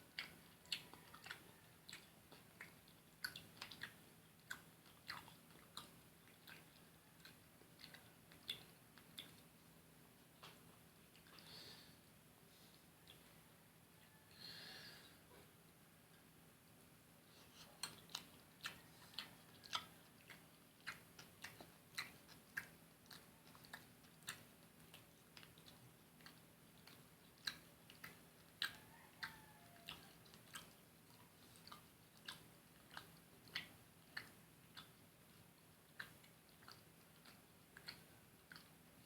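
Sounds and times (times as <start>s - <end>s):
person chewing with mouth clicks: 0.0s - 9.7s, 10.4s - 11.9s, 12.5s - 13.5s, 17.3s - 39.0s.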